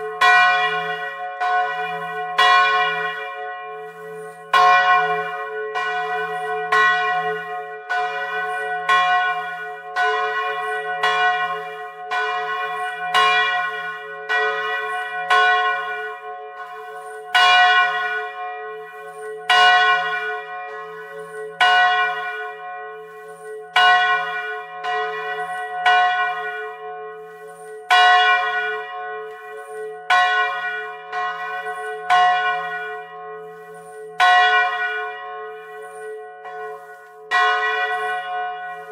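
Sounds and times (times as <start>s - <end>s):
church bell ringing: 0.0s - 38.9s.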